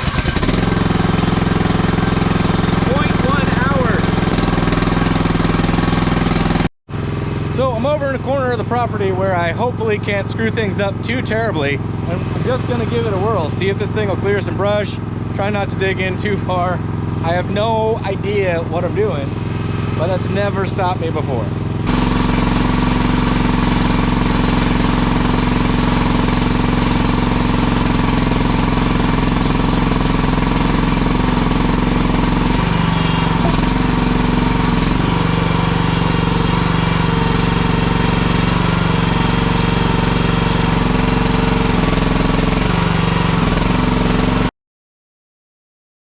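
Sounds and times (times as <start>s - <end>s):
small gas engine running hard: 0.0s - 44.5s.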